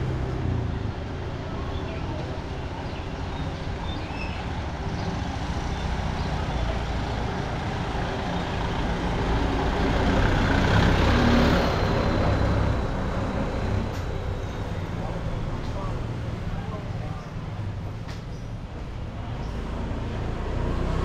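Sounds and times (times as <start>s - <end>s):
vehicle engine rumbling past: 0.0s - 21.0s.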